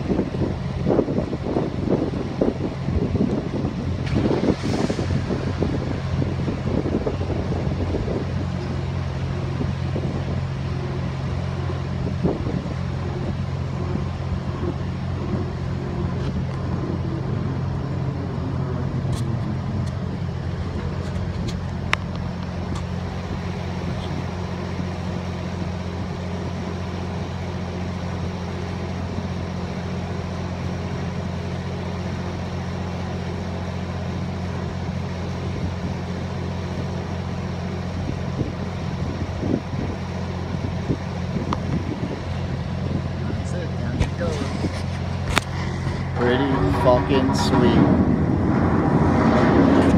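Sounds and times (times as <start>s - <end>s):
bridge machinery droning: 0.0s - 49.9s.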